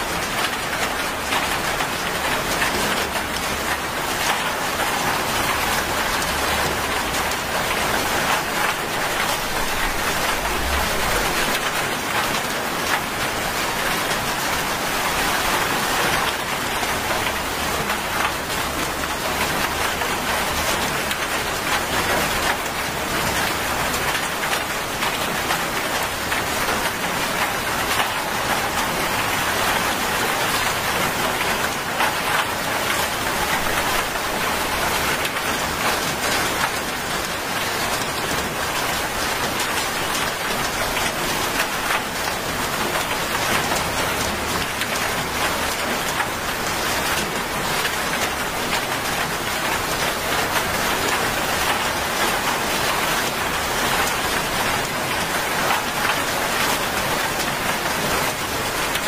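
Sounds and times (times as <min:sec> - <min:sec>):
heavy rain on wet road: 0:00.0 - 0:59.0.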